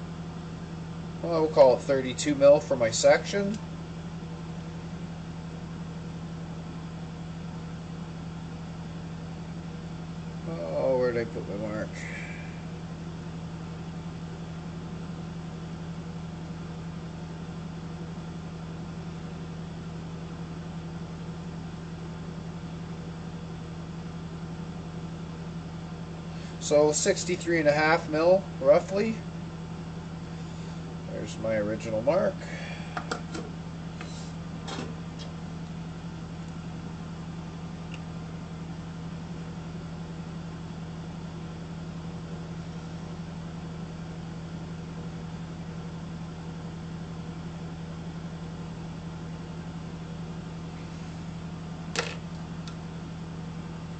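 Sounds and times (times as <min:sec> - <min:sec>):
workshop machine humming: 0:00.0 - 0:53.9.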